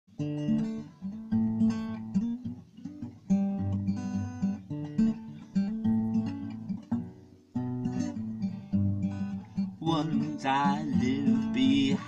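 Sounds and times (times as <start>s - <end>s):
acoustic guitar strumming: 0.1s - 12.0s.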